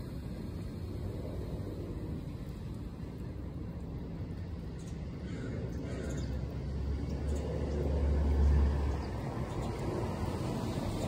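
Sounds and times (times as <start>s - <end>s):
truck passing rumble: 0.0s - 11.0s.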